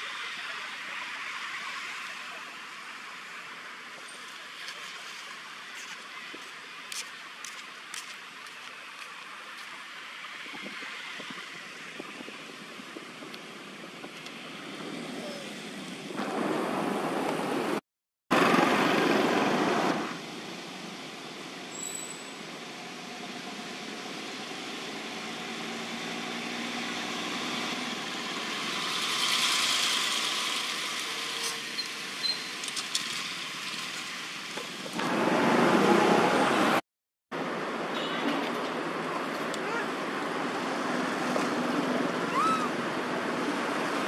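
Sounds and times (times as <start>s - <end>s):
rushing outdoor background noise: 0.0s - 44.0s.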